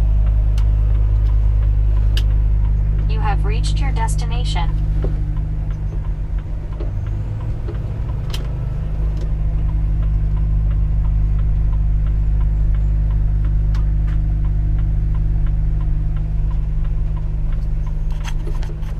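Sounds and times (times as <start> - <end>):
diesel truck engine droning: 0.0 - 18.9.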